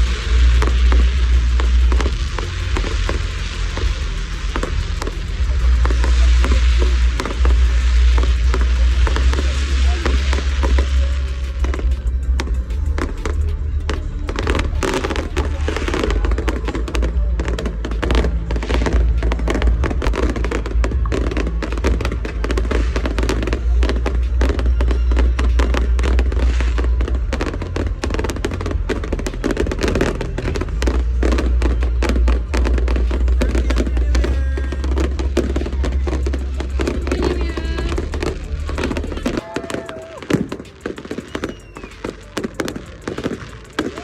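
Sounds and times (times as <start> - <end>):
low rumble: 0.0 - 39.5
fireworks cracking and popping: 0.0 - 44.0
music: 0.0 - 44.0.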